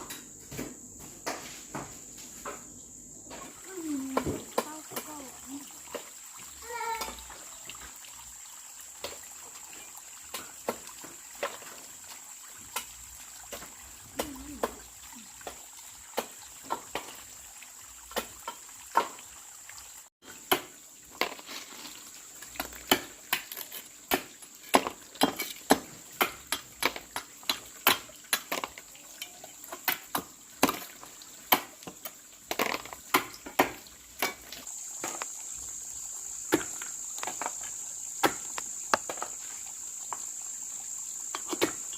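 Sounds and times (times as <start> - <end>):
insect chirring: 0.0 - 19.2, 20.3 - 41.9.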